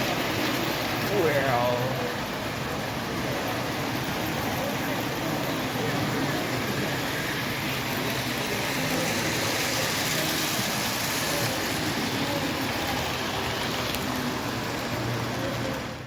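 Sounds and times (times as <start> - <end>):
model locomotive rumble: 0.0 - 16.0.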